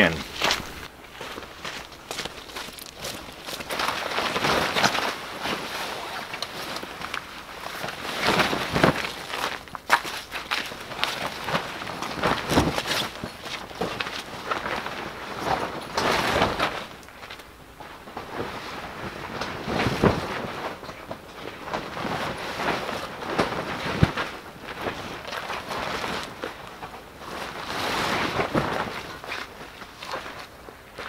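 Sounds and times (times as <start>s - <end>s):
tent fabric rustling and flapping: 0.0s - 31.0s.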